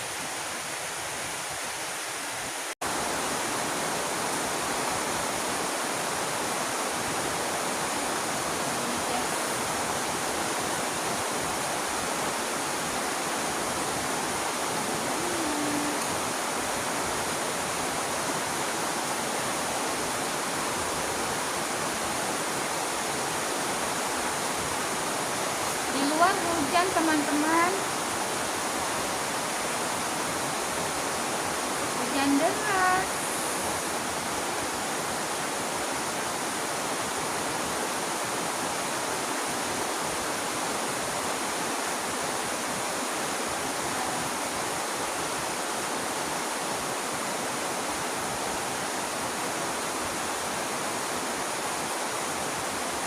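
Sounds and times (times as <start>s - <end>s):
heavy rain hissing: 0.0s - 53.0s.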